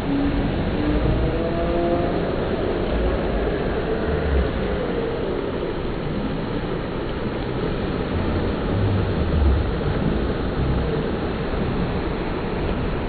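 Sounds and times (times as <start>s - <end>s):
low rumbling swells: 0.0s - 13.0s
waves rolling and breaking: 0.0s - 13.0s.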